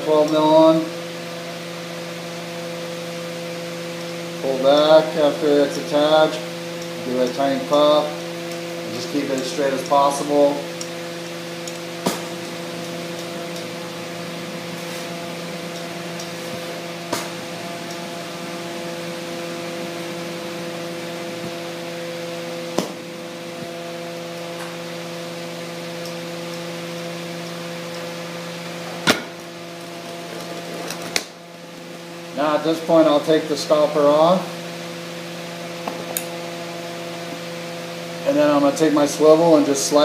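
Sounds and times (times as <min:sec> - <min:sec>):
torch hissing and humming: 0:00.0 - 0:40.0.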